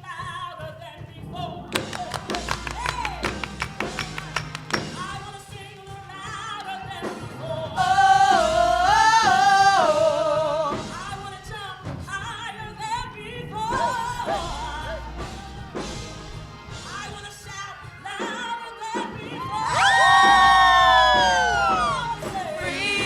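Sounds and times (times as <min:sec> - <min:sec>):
gospel band playing: 0:00.8 - 0:23.0.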